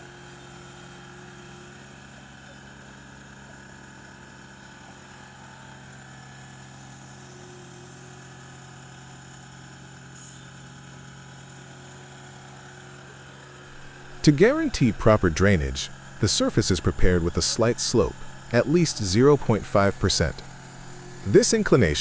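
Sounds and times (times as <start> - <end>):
construction machine engine idling: 0.1 - 22.0.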